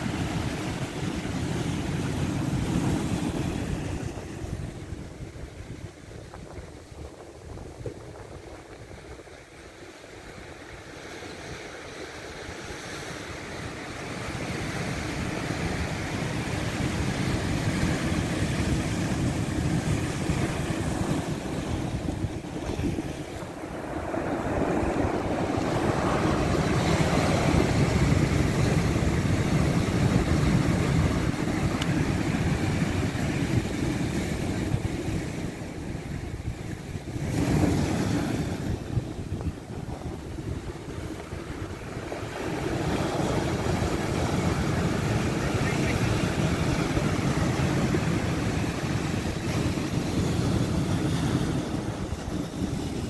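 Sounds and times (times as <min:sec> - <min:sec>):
surf washing over stones: 0:00.0 - 0:53.0
wind buffeting microphone: 0:00.0 - 0:53.0.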